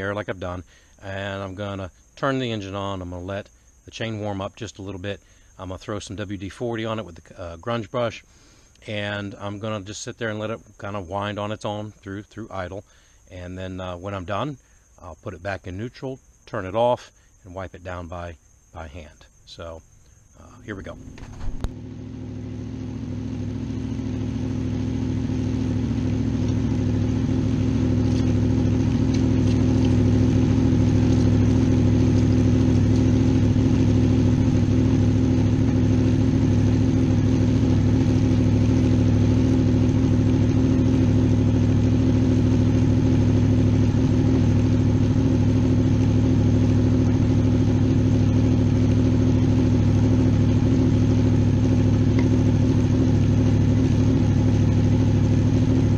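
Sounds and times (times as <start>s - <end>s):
motorcycle engine idling: 0.0s - 13.2s, 19.8s - 55.9s.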